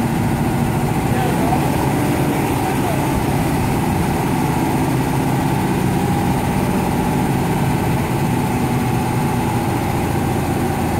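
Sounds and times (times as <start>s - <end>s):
combine harvester engine idling: 0.0s - 10.9s
steady whine: 0.0s - 10.9s.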